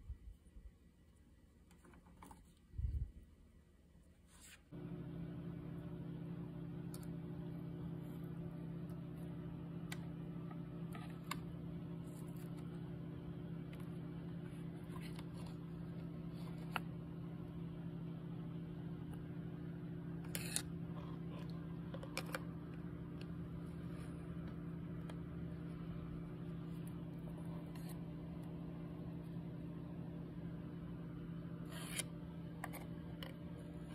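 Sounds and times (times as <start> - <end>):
low electrical hum: 0.0 - 33.9.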